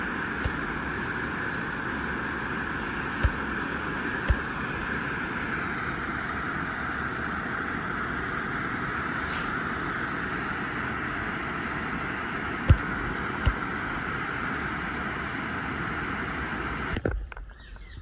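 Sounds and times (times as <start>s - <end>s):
flowing stream water: 0.0s - 17.4s.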